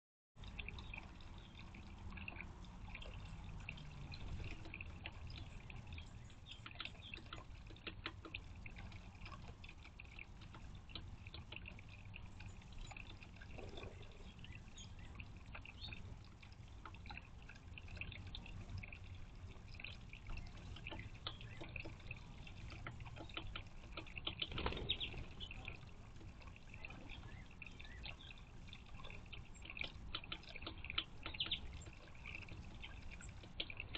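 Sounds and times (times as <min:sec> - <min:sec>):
fountain water trickling into basin: 0:00.4 - 0:33.9
water drips: 0:00.4 - 0:33.9.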